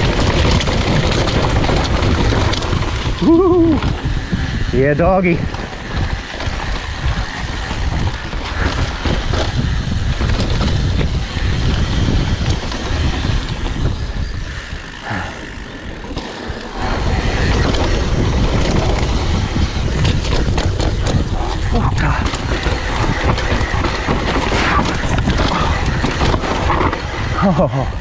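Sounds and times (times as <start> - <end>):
bike rattles and knocks: 0.0 - 28.0
bike tyres rumbling on dirt: 0.0 - 28.0
wind rushing over microphone: 0.0 - 28.0.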